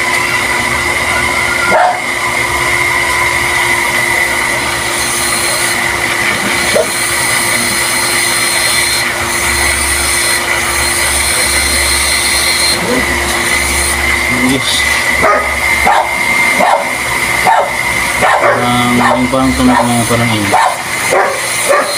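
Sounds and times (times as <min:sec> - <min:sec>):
low hum: 0:00.0 - 0:21.3
electric water pump whining: 0:00.0 - 0:21.9.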